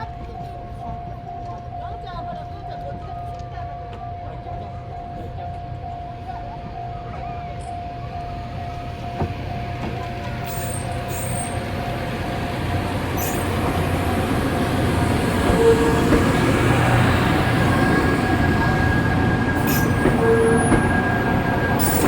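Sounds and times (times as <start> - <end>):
train rumble: 0.0 - 22.0
level crossing warning bell: 0.2 - 22.0.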